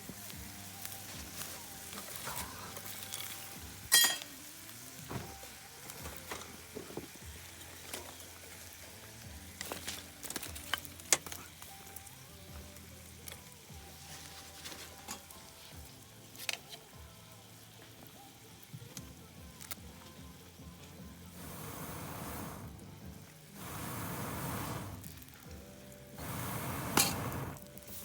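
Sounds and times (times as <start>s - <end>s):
food sizzling on a griddle: 0.0s - 28.0s.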